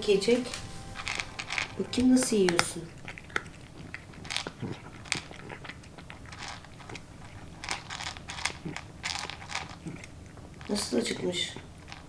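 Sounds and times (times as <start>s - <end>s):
cat crunching dry kibble: 0.5s - 12.0s.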